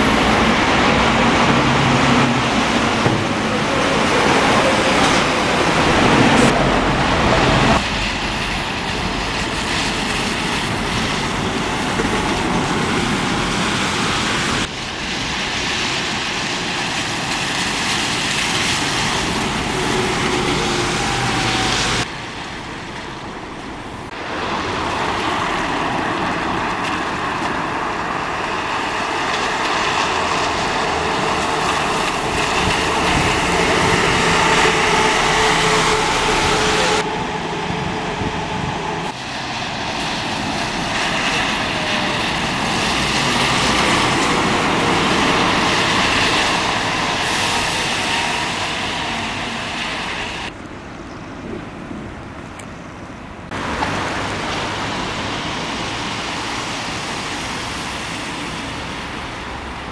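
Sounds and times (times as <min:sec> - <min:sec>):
passing buses and trams: 0:00.0 - 0:59.9.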